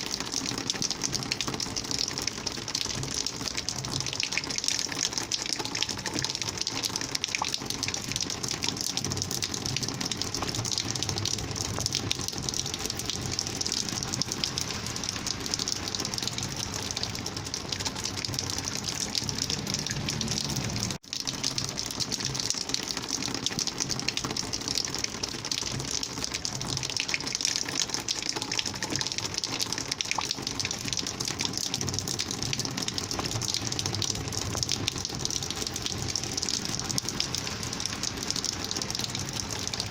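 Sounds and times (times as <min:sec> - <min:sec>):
rainwater gushing: 0:00.0 - 0:39.9.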